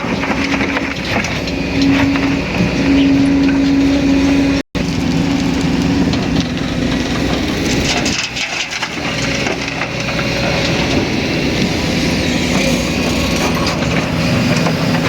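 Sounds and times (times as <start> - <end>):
crunching and clattering: 0.0 - 3.8, 4.8 - 15.0
excavator diesel engine running: 0.0 - 15.0
hydraulic whine: 0.0 - 15.0.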